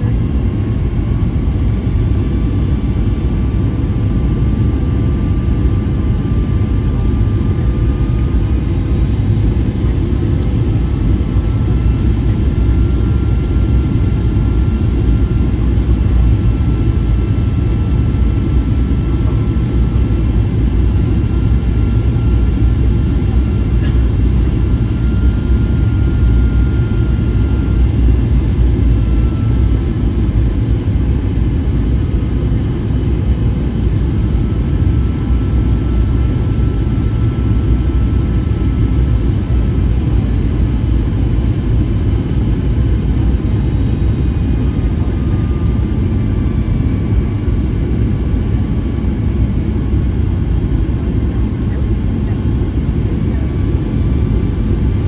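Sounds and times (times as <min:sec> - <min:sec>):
airplane cabin engine rumble: 0:00.0 - 0:55.0
faint engine tones: 0:00.0 - 0:55.0.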